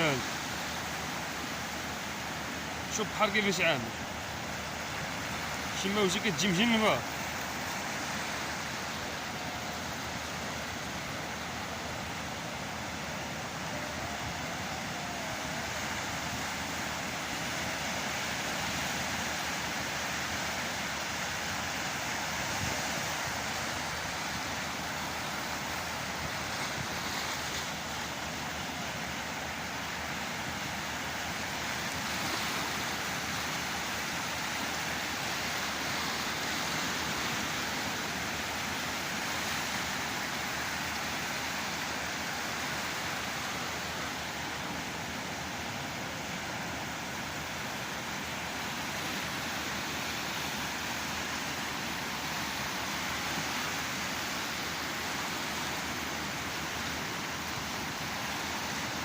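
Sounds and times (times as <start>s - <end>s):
waves breaking: 0.0s - 59.0s.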